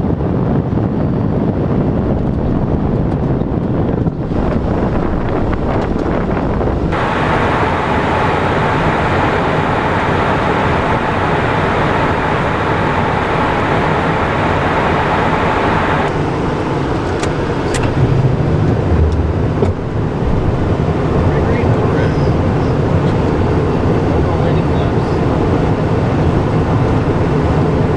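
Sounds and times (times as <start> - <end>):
jet engines humming: 0.0 - 27.9
low rumble: 0.0 - 27.9
air rushing over airframe: 0.9 - 27.9.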